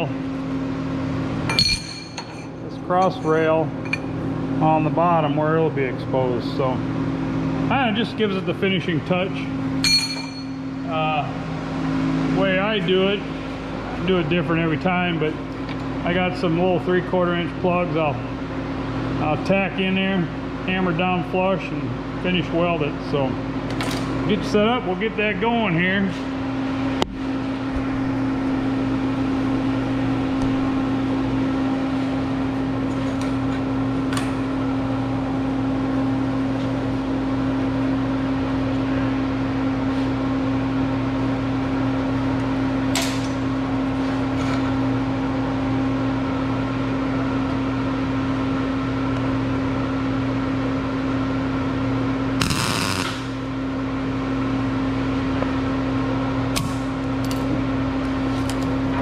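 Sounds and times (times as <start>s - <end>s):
electrical hum with fan noise: 0.0s - 59.0s.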